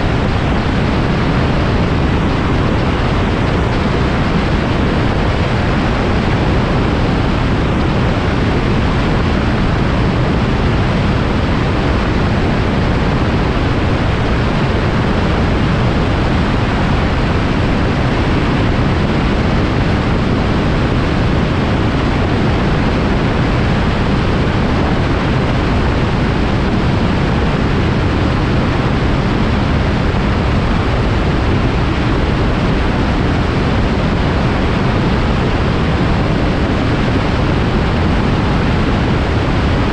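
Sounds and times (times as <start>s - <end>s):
microlight engine and wind noise: 0.0s - 39.9s.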